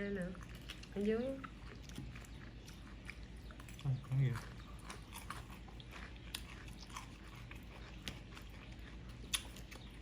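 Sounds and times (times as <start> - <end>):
chewing with mouth smacks: 0.1 - 10.0.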